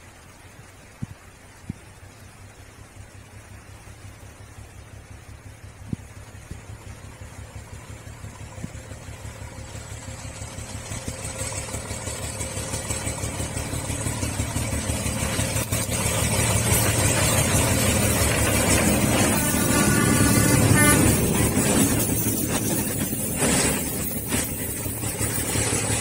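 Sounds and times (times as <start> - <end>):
diesel locomotive engine throbbing: 3.8 - 26.0.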